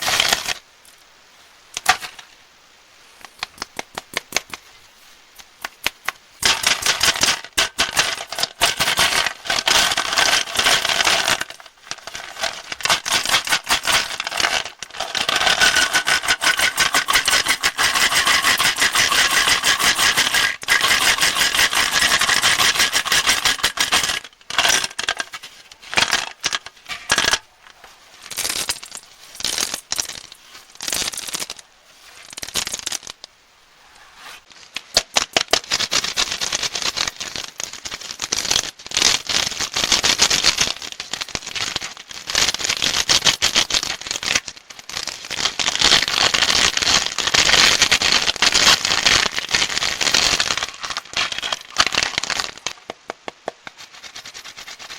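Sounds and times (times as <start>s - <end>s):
plastic wrappers crinkling: 6.4s - 33.3s, 34.5s - 52.9s.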